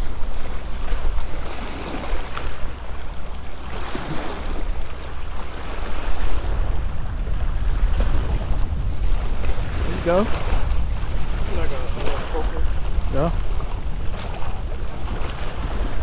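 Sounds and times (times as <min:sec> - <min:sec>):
waves splashing against rocks: 0:00.0 - 0:16.0
wind buffeting microphone: 0:00.0 - 0:16.0.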